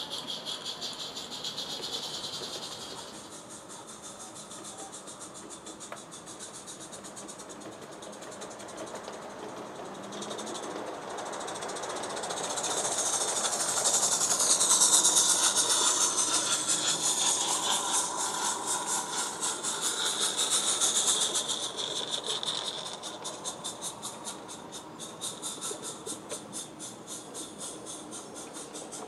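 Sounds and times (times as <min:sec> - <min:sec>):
steam hiss: 0:00.0 - 0:29.0
steam locomotive exhaust beats: 0:00.0 - 0:29.0
wagons clicking over track: 0:00.0 - 0:29.0.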